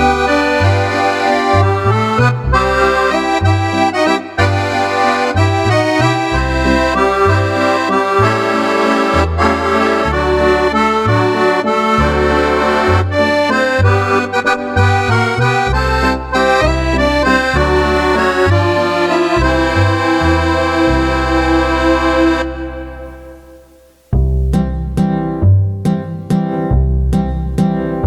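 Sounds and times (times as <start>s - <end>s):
accordion playing chords and bass: 0.0s - 28.0s.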